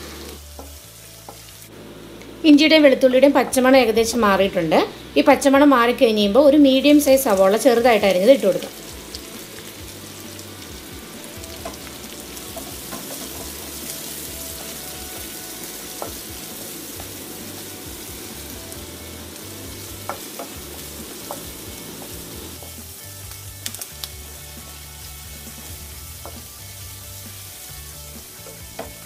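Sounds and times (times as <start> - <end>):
onions sizzling in oil: 0.0 - 2.2, 5.2 - 29.0.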